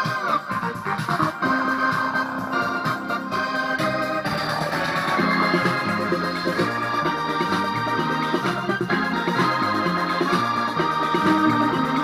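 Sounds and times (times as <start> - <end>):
electronic organ music: 0.0 - 12.0.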